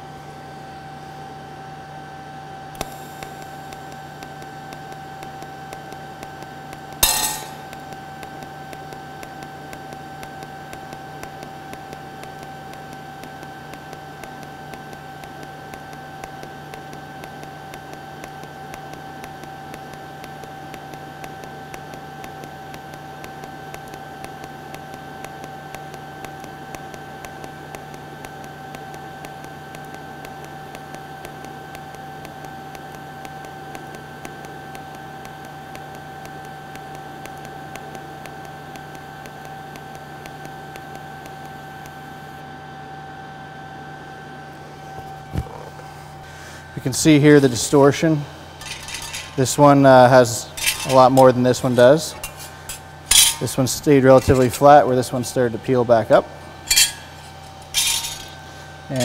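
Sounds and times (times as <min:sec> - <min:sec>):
welding arc hissing and whining: 0:02.7 - 0:42.4, 0:44.0 - 0:59.0.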